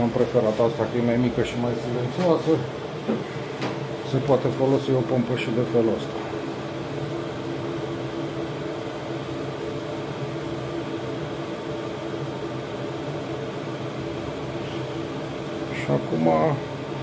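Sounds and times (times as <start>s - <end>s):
diesel air heater humming: 0.0s - 17.0s.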